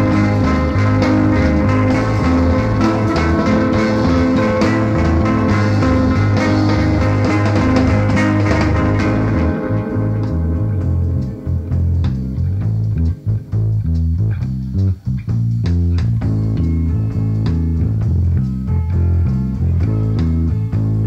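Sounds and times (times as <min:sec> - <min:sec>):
bass guitar: 0:00.0 - 0:21.0
drum kit: 0:00.0 - 0:21.0
electric guitar: 0:00.0 - 0:21.0.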